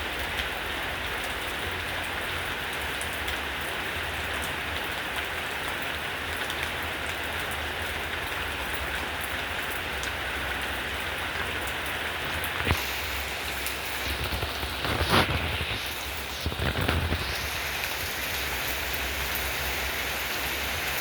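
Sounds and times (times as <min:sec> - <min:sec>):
rain drumming on a surface: 0:00.0 - 0:21.0.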